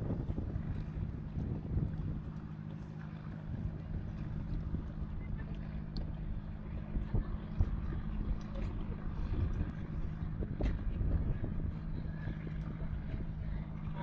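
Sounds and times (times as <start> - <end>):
engine humming: 0.0 - 14.0
wind rumbling on microphone: 0.0 - 14.0.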